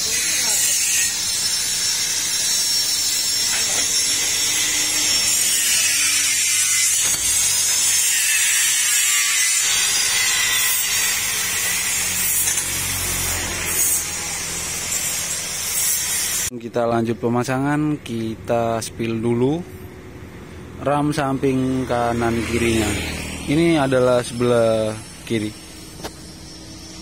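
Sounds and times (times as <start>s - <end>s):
power tool grinding steel: 0.0s - 16.5s, 21.6s - 27.0s.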